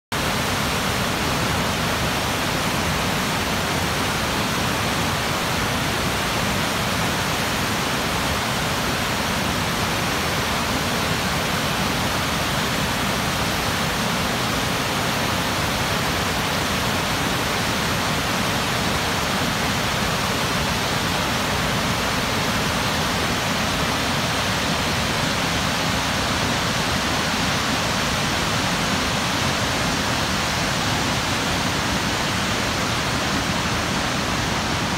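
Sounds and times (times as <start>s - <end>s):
water rushing over rocks: 0.1s - 34.9s.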